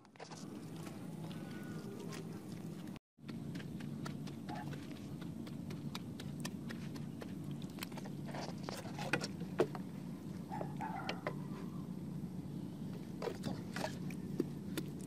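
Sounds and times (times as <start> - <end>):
mud squelching: 0.0 - 11.6, 12.9 - 15.0
steady low hum: 0.0 - 15.0.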